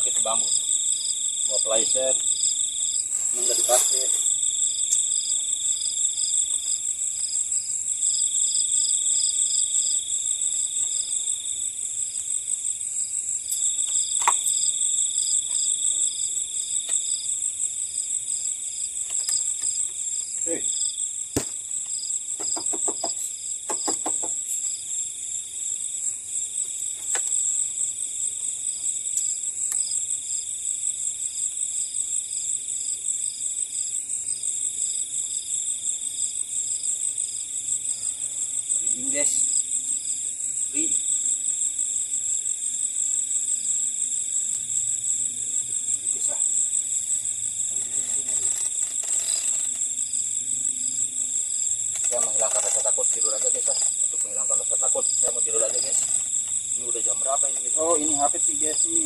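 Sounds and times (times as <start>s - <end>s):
lower insect trill: 0.0s - 59.0s
pulsing insect trill: 0.0s - 59.0s
steady high insect trill: 0.0s - 59.0s.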